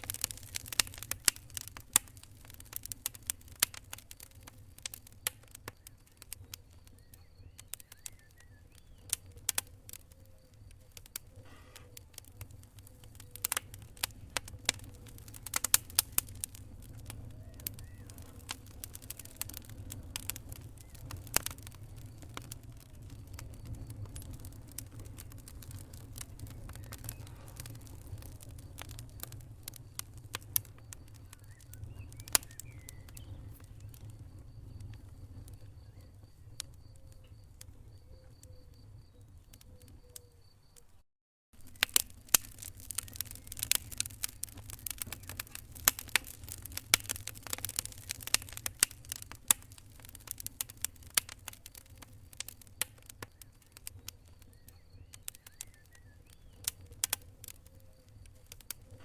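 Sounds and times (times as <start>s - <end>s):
wood fire crackling and popping: 0.0s - 40.9s, 41.6s - 59.0s
low rumble of flames: 0.0s - 41.0s, 41.6s - 59.0s.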